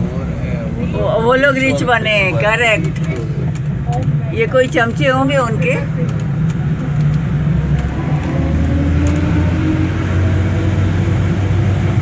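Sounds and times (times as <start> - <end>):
road train engine drone: 0.0 - 12.0.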